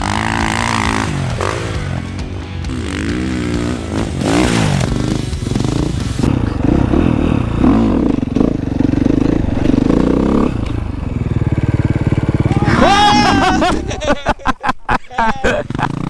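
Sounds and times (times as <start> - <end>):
dirt bike engine revving: 0.0 - 14.5, 15.4 - 16.0.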